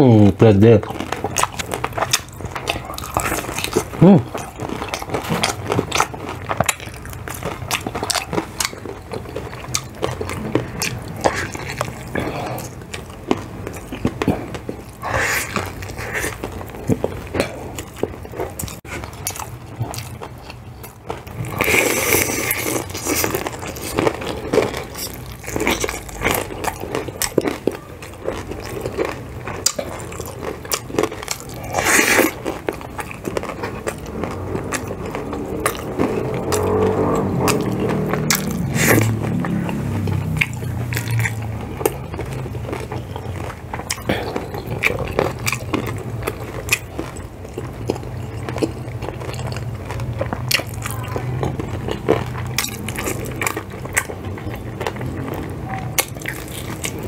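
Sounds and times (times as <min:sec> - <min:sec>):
chewing and wet mouth sounds: 0:00.1 - 0:57.0
crunchy bites: 0:00.6 - 0:57.0.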